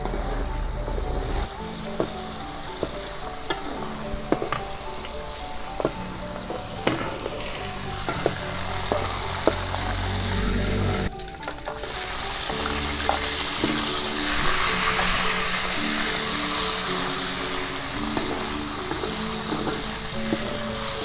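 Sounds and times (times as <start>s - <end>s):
berries sizzling in hot oil: 0.0s - 21.0s.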